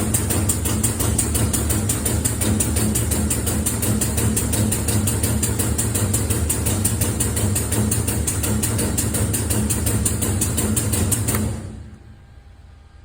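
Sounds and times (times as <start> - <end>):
car engine idling: 0.0 - 11.6
fast even engine ticking: 0.0 - 11.6.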